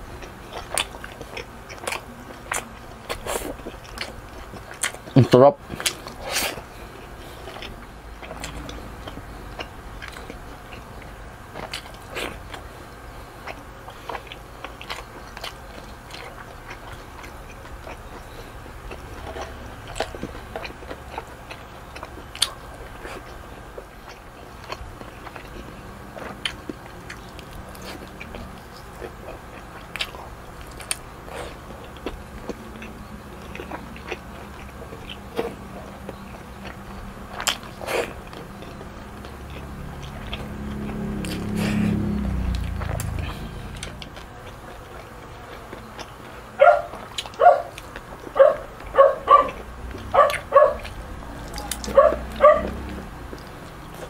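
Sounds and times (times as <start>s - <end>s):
person chewing with wet smacks: 0.0s - 54.0s
steady low hum: 0.0s - 54.0s.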